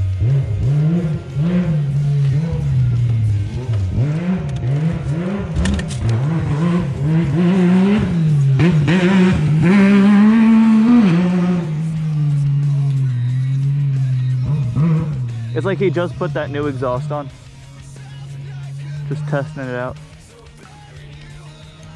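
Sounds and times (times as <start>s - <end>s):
dirt bike engine revving: 0.0s - 20.2s.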